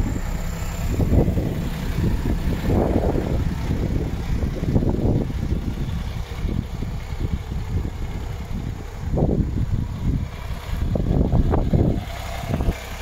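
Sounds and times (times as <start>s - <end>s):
diesel truck engine idling: 0.0s - 13.0s
wind buffeting microphone: 0.0s - 13.0s.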